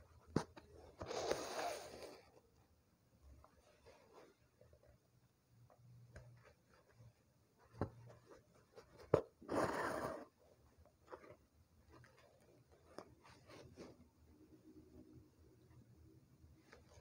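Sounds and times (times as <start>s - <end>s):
faint handling rustle: 0.0s - 14.3s.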